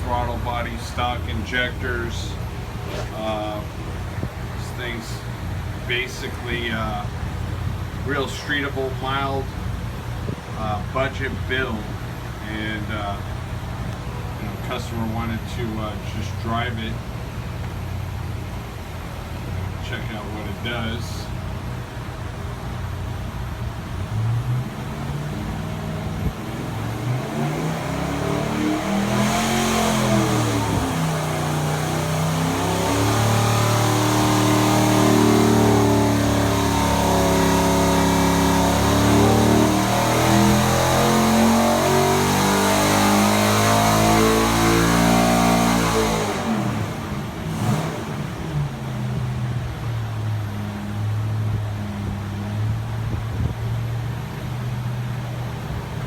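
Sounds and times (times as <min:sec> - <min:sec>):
engine full-throttle pull: 0:00.0 - 0:56.0
engine idling and revving: 0:00.0 - 0:56.0.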